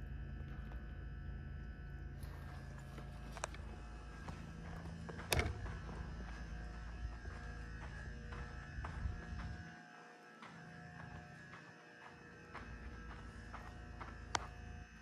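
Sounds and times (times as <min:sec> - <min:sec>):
low steady buzz: 0:00.0 - 0:15.0.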